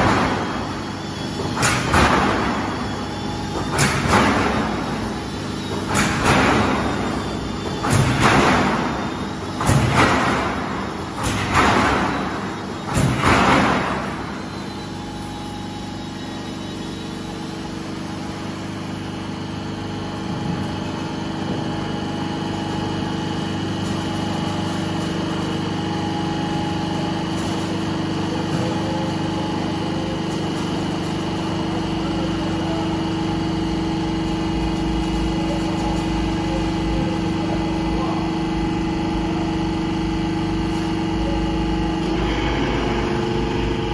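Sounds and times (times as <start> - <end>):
roll forming machine drone: 0.0 - 43.9.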